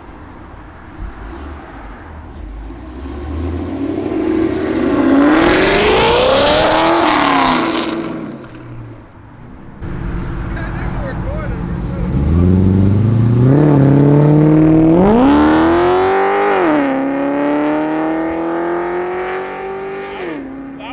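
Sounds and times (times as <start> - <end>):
car engine revving: 0.6 - 8.7, 9.8 - 20.8.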